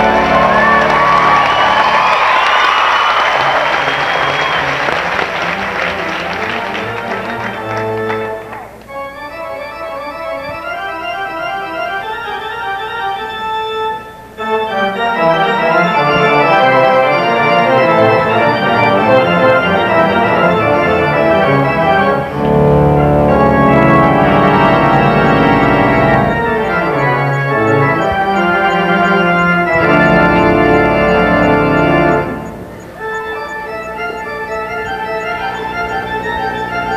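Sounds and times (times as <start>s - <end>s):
pipe organ playing chords: 0.0s - 36.9s.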